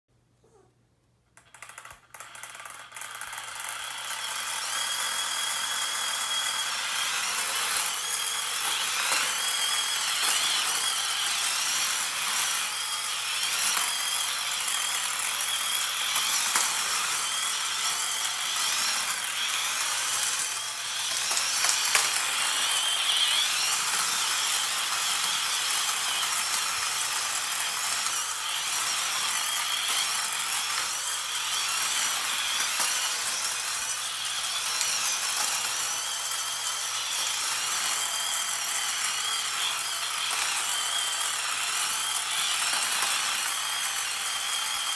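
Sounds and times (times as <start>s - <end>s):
toy robot motors whirring: 1.4s - 44.9s.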